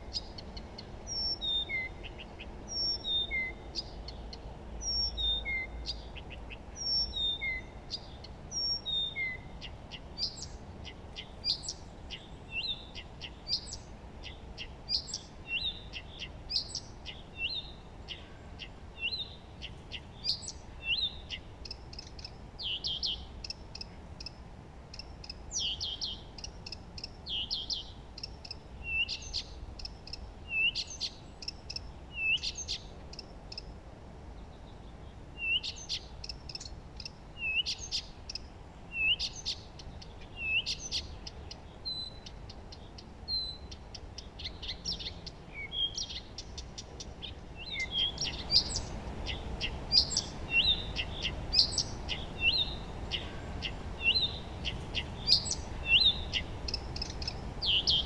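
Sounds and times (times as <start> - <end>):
songbirds chirping and singing: 0.0 - 24.4, 25.0 - 33.7, 34.3 - 58.0.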